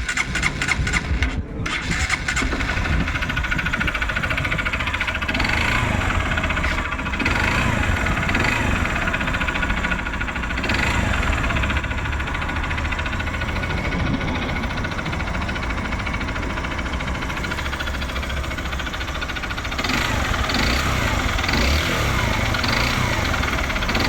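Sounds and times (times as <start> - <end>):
motorcycle engine idling with knocking: 0.0 - 24.0.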